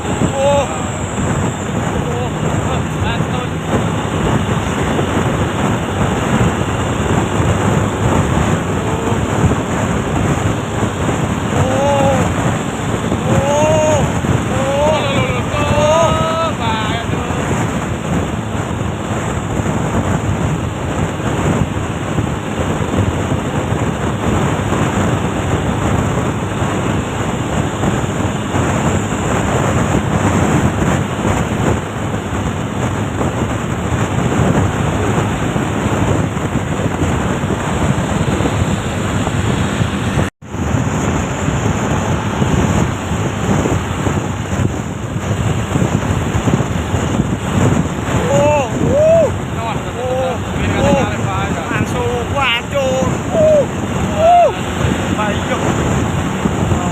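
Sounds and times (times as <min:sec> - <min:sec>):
vehicle and road noise: 0:00.0 - 0:56.9
wind buffeting microphone: 0:00.0 - 0:56.9.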